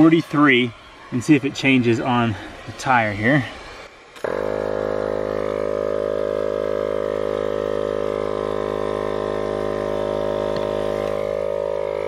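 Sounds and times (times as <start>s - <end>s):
tire inflator humming: 0.0s - 12.0s.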